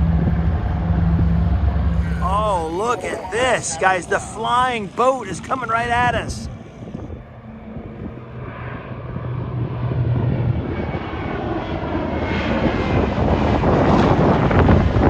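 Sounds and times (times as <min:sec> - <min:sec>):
aircraft radial engines droning: 0:00.0 - 0:15.0.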